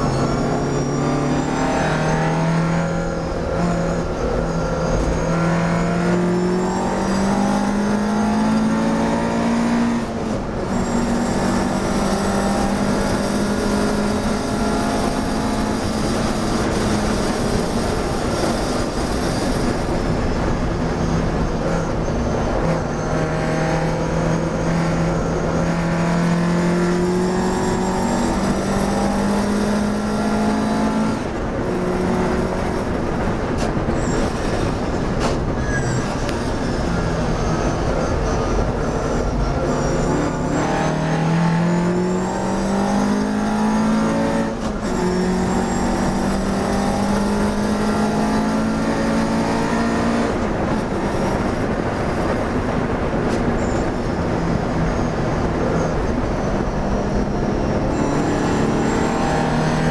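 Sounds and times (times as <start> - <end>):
race car engine accelerating: 0.0 - 59.9
road and wind noise: 0.0 - 59.9.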